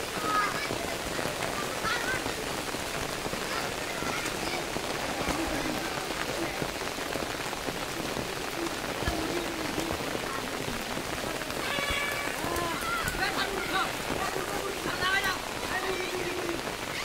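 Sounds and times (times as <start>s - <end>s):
heavy rain on standing water: 0.0s - 17.0s.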